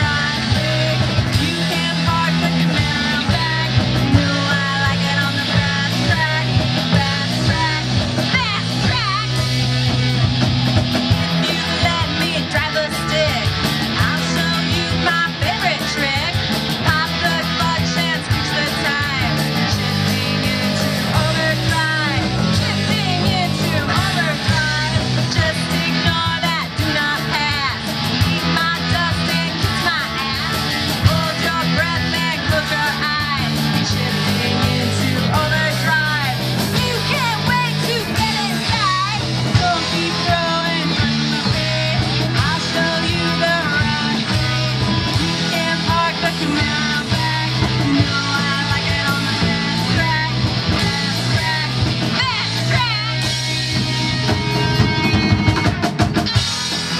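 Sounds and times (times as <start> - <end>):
rock music: 0.0 - 56.9.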